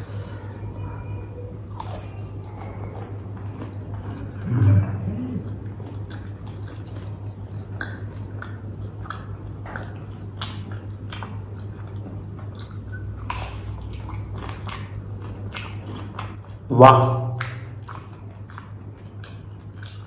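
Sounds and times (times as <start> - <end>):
steady low hum: 0.0 - 20.0
wet sticky chewing: 1.6 - 20.0.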